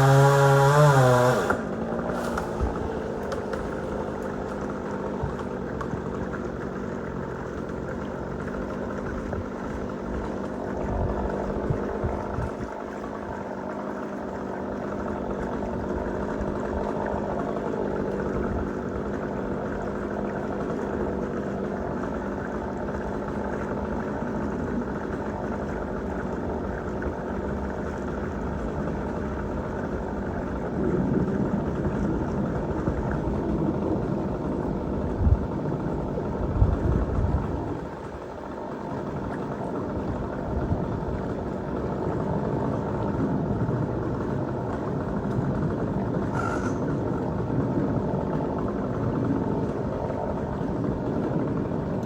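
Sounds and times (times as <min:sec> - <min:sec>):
engine running: 0:00.0 - 0:52.0.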